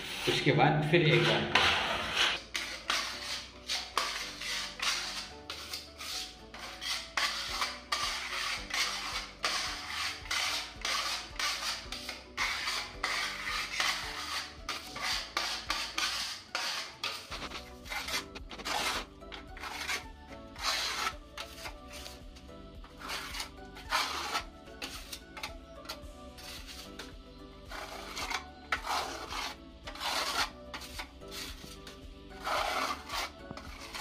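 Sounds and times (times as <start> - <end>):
putty knife scraping a wall: 1.1 - 22.2, 22.8 - 34.0.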